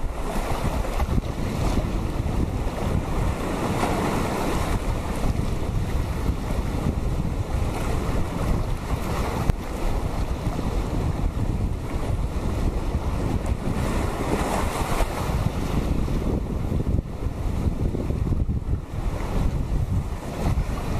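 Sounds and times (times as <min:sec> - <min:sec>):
small waves washing over sand: 0:00.0 - 0:20.9
wind buffeting microphone: 0:00.0 - 0:20.9.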